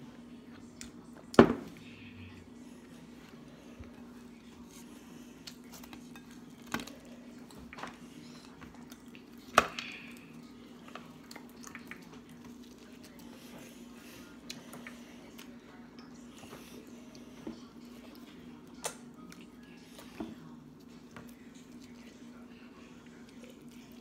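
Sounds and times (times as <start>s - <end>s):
steady low hum: 0.0s - 24.0s
chewing food: 3.7s - 24.0s.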